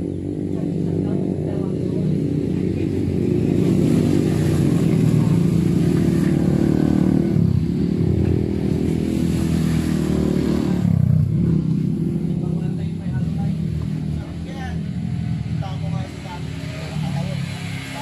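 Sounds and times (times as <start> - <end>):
dirt bike engine: 0.0 - 18.0.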